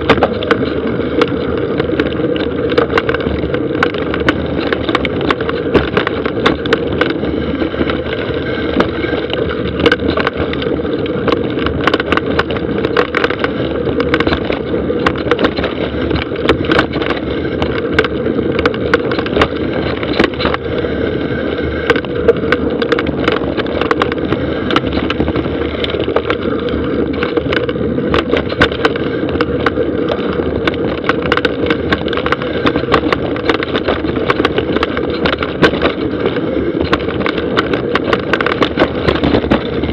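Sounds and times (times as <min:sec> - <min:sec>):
bike rattles and knocks: 0:00.0 - 0:39.9
tyre and riding noise rush: 0:00.0 - 0:39.9.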